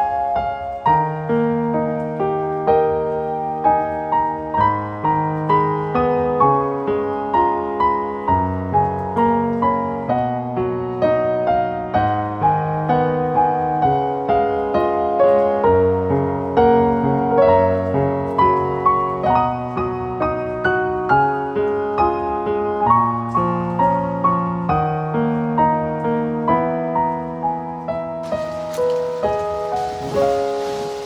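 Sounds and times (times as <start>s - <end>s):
gentle solo piano: 0.0s - 31.0s.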